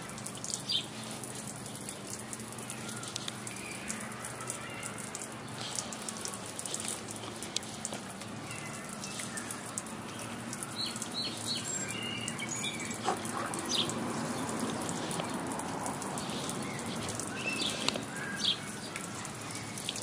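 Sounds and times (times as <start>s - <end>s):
sprinkler spray pattering: 0.0s - 20.0s.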